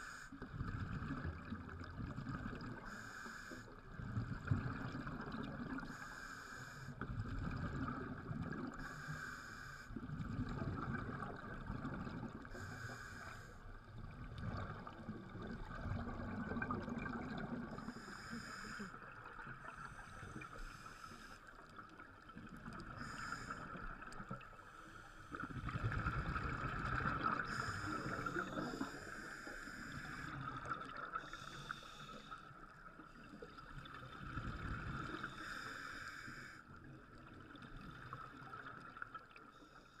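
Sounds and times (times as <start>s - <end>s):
underwater hum: 0.0s - 40.0s.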